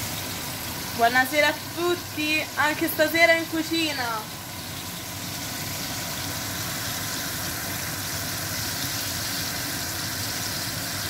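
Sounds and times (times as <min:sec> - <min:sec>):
fish frying in oil: 0:00.0 - 0:11.0.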